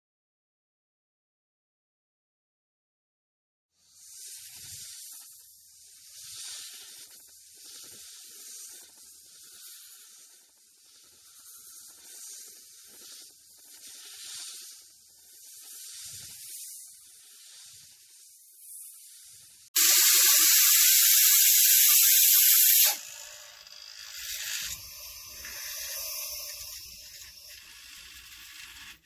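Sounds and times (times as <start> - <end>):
snake hissing: 3.9 - 28.9.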